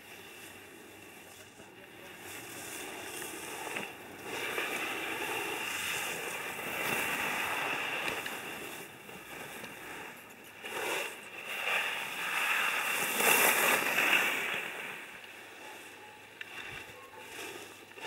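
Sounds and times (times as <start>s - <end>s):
skis scraping over snow: 0.0s - 18.0s.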